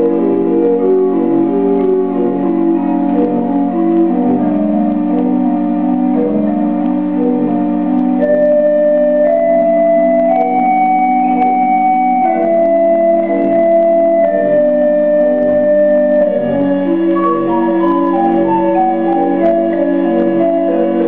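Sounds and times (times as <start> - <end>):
pipe organ playing: 0.0 - 21.0.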